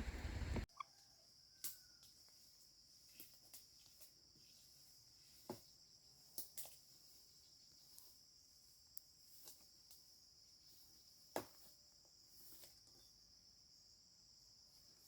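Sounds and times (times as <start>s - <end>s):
insect chorus buzz: 0.0s - 15.0s.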